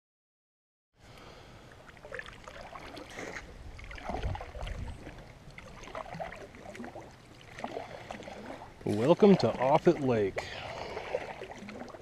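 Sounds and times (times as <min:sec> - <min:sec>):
paddle splashing water: 0:01.1 - 0:12.0.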